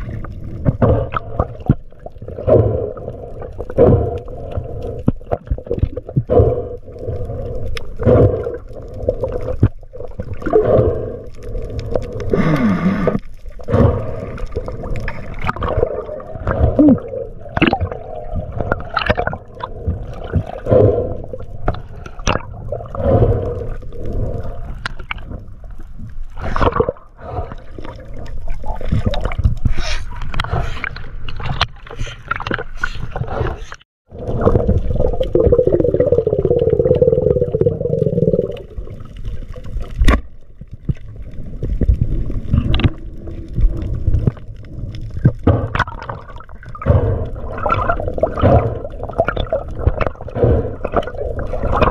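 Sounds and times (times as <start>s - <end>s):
knocks and clicks underwater: 0.0s - 51.9s
water rushing and bubbling: 0.0s - 51.9s.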